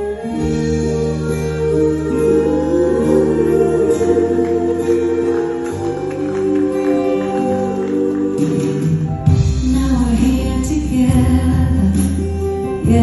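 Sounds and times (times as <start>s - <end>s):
keyboard and string chords: 0.0s - 13.0s.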